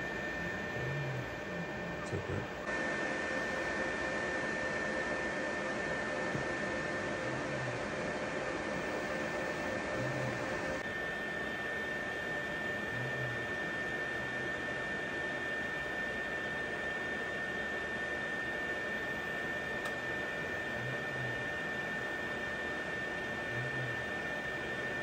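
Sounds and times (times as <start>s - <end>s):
printer humming with high whine: 0.0s - 25.0s.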